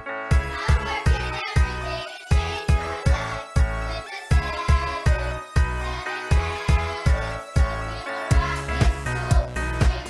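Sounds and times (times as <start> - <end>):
song with steady bass beat: 0.0 - 10.0.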